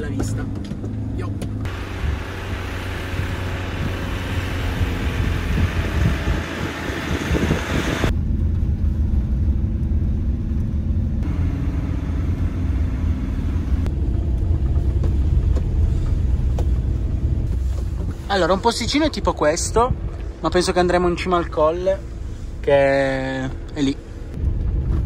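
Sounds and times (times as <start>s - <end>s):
engine and road rumble: 0.0s - 25.0s
hissing road noise: 0.0s - 25.0s.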